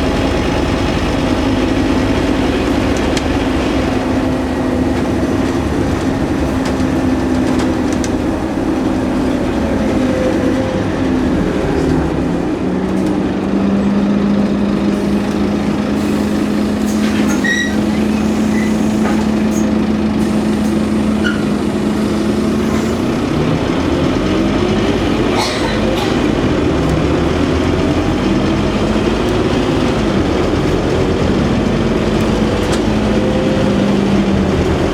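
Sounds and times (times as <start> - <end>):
bus engine and gearbox whine: 0.0 - 34.9.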